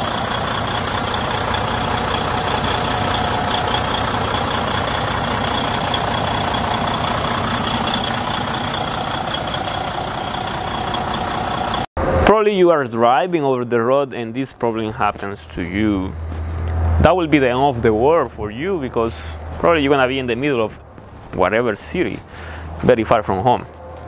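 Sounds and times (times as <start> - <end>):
diesel engine idling: 0.0 - 11.9, 14.1 - 24.0.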